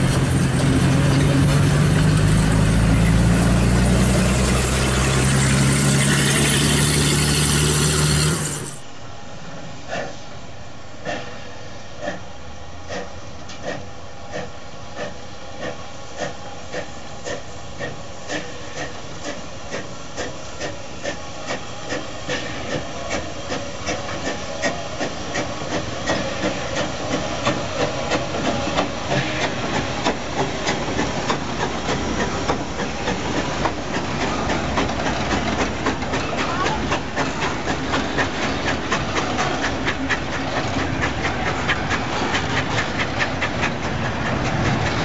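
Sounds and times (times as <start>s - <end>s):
steam hissing: 0.0s - 45.0s
steam locomotive chuffing: 0.0s - 45.0s
train coaches rolling past: 0.0s - 45.0s.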